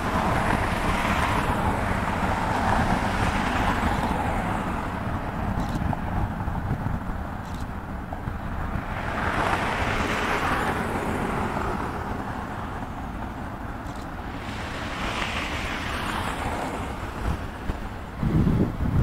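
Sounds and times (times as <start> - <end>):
jet engines at climb power: 0.0 - 19.0.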